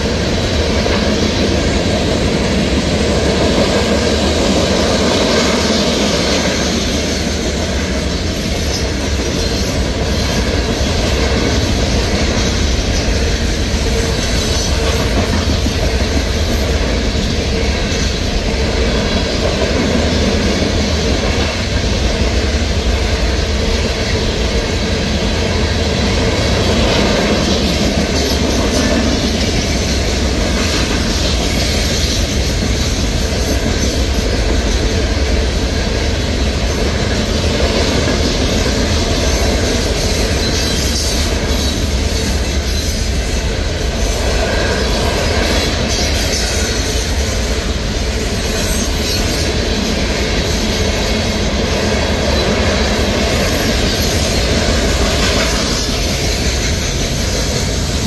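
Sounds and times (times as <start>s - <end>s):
freight train wheels rattling: 0.0s - 58.0s.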